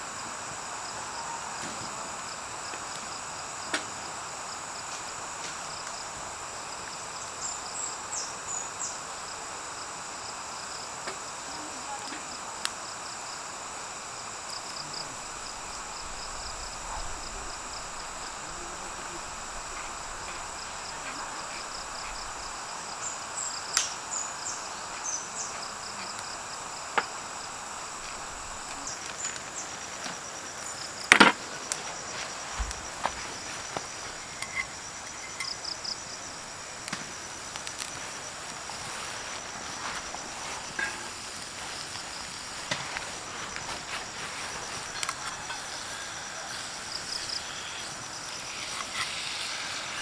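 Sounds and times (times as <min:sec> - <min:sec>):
insects calling in pulsing chorus: 0:00.0 - 0:50.0.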